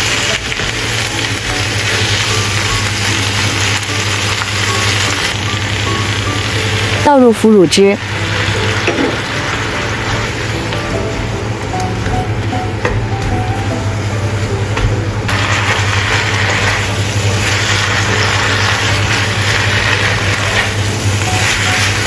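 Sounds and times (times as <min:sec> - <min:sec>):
leaves sizzling in a wok: 0:00.0 - 0:11.6, 0:15.2 - 0:22.0.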